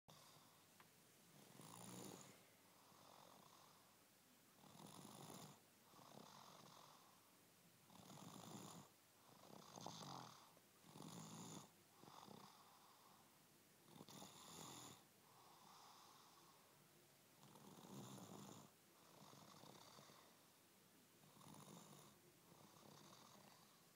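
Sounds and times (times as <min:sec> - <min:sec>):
toddler snoring: 0:01.4 - 0:03.9, 0:04.6 - 0:07.3, 0:07.9 - 0:16.7, 0:17.4 - 0:20.4, 0:21.2 - 0:23.9.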